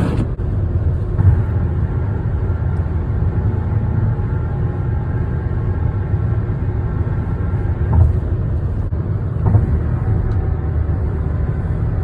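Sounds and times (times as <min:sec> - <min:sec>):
car tyre rumble: 0:00.0 - 0:12.0.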